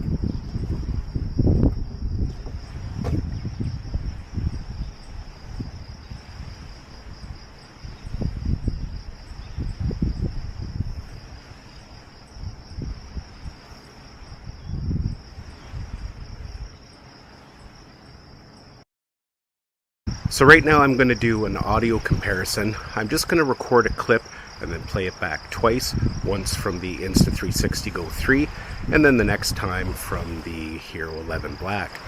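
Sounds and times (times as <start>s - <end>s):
crickets trilling: 0.0s - 18.8s, 20.1s - 32.0s.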